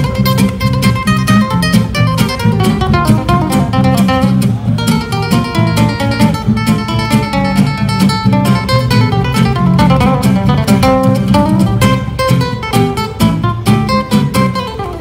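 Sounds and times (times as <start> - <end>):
acoustic guitars playing: 0.0 - 15.0.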